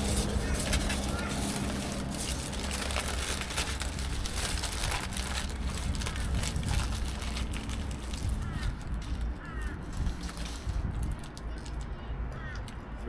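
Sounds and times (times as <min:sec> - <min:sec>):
foil wrapper crinkling: 0:00.0 - 0:11.8
steady low rumble: 0:00.0 - 0:11.9.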